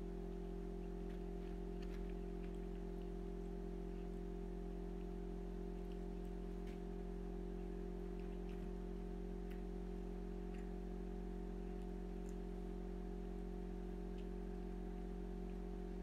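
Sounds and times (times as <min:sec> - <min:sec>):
steady tonal hum: 0:00.0 - 0:16.0.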